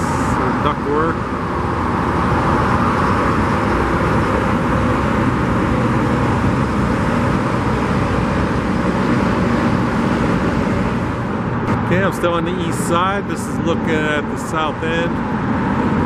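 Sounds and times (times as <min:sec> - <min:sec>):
low engine hum: 0:00.0 - 0:16.0
road traffic roar: 0:00.0 - 0:16.0.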